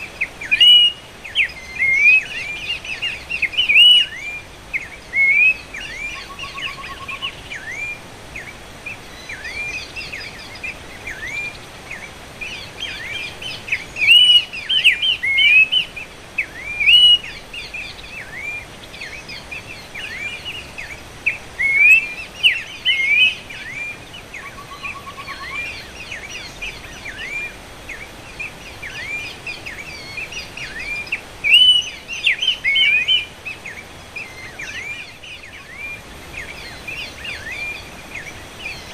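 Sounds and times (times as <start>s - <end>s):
bird whistled calls: 0.0s - 8.6s, 9.2s - 38.9s
faint bird trill: 0.0s - 38.9s.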